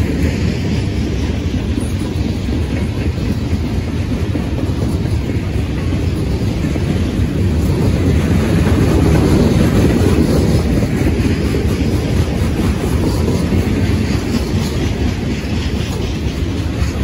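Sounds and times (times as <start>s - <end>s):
freight train wheels rolling: 0.0s - 17.0s.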